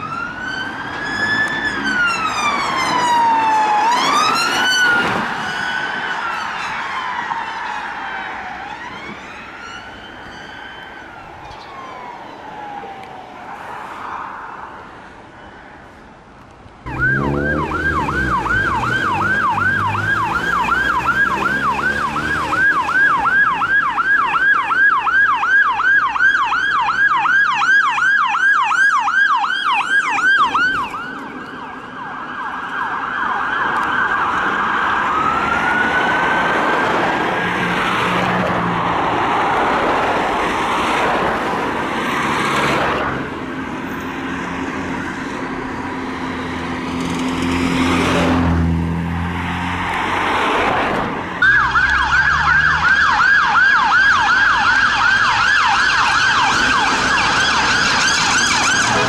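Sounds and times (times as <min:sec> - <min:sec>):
ambulance siren: 0:00.0 - 0:15.7, 0:16.9 - 0:59.0
road traffic noise: 0:00.0 - 0:59.0.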